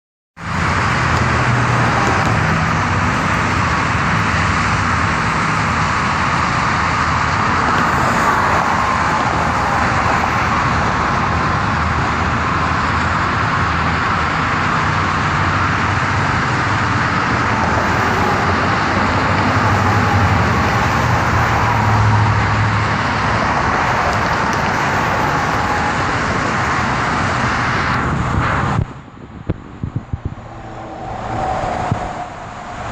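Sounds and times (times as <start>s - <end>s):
road vehicle noise: 0.4s - 32.9s.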